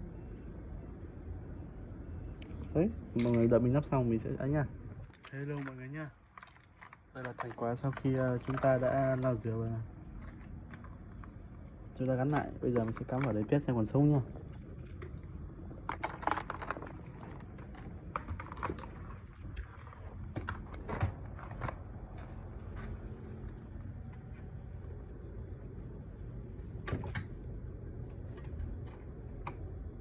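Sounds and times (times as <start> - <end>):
low hum: 0.0 - 5.5, 8.4 - 30.0.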